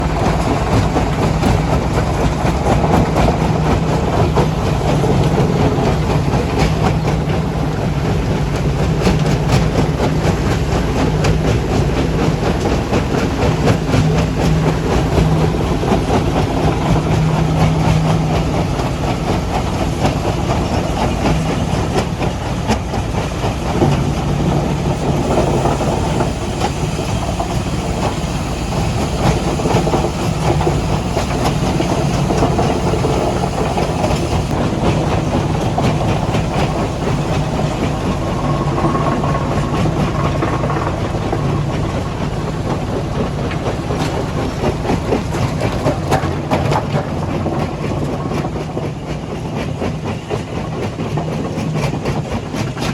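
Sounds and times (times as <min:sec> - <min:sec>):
diesel machinery engine drone: 0:00.0 - 0:52.9.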